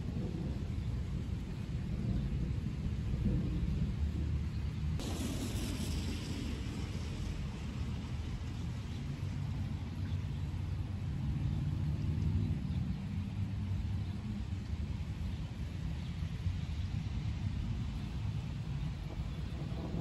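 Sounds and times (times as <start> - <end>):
distant thunder rumbling: 0.0 - 20.0.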